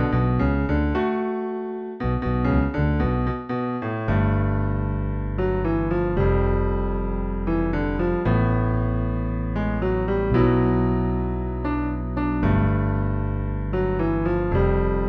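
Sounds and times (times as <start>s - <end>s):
deep bass: 0.0s - 1.2s, 2.0s - 15.0s
piano-like keyboard music: 0.0s - 15.0s.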